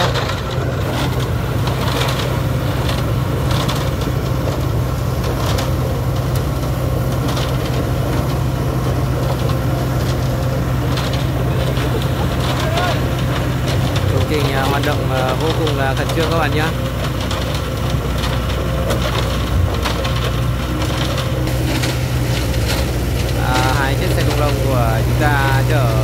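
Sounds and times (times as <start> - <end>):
diesel engine droning: 0.0 - 26.0
sharp clatters and crunches: 0.0 - 26.0.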